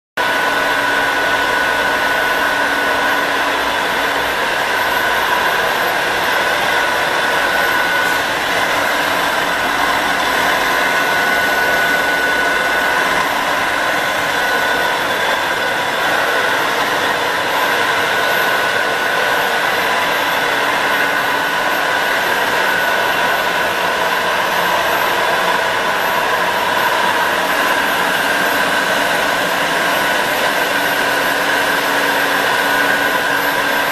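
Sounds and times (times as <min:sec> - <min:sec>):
high steady whine: 0:00.2 - 0:33.9
milling machine whirring: 0:00.2 - 0:33.9.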